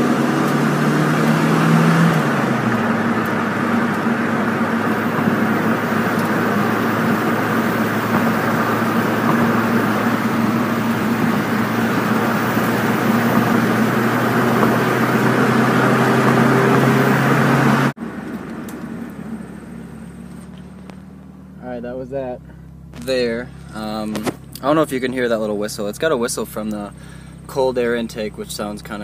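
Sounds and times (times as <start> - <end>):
car engine running: 0.0 - 29.0
road noise: 0.0 - 29.0.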